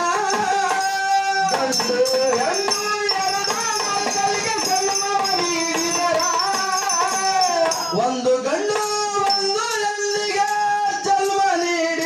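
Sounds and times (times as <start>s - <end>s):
hand percussion: 0.0s - 12.0s.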